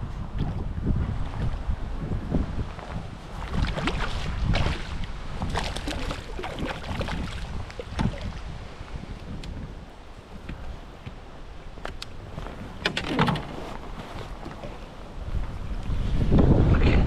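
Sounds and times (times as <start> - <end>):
wind buffeting microphone: 0.0 - 17.0
water splashing against kayak hull: 2.7 - 17.0.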